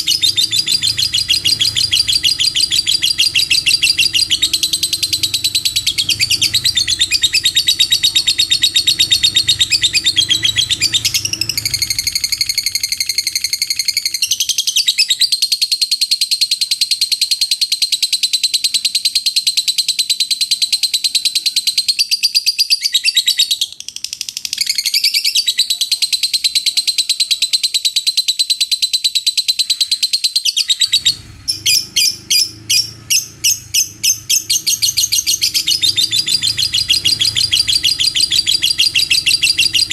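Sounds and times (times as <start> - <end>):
lovebird high-pitched trilling: 0.0 - 39.9
lovebird sharp chirps: 0.0 - 39.9.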